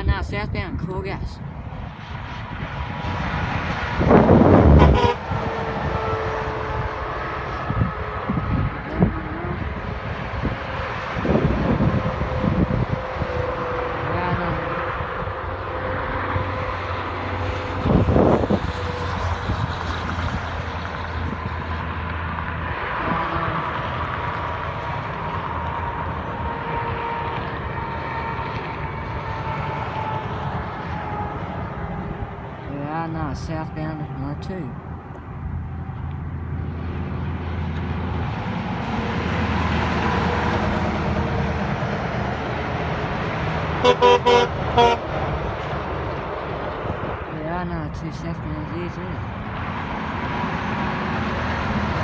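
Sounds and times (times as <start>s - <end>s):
truck engine drone: 0.0s - 52.0s
tyre and road noise: 0.0s - 52.0s.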